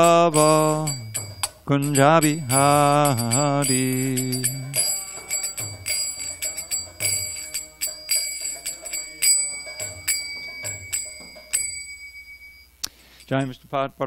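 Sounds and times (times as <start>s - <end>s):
hand cymbals clashing: 0.0s - 13.4s.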